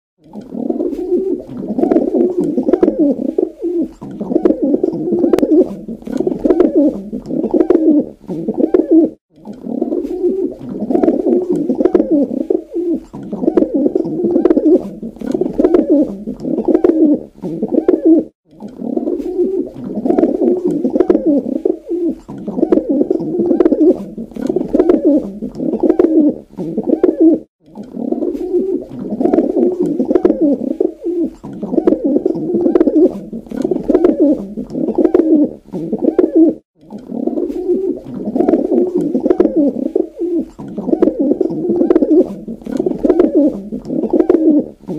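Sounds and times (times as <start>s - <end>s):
pigeon cooing: 0.2s - 44.9s.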